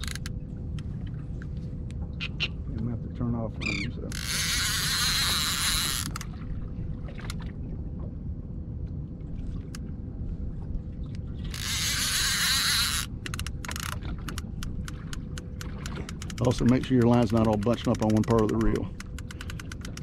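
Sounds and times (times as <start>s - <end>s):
boat engine rumble: 0.0s - 20.0s
faint hum: 0.0s - 20.0s.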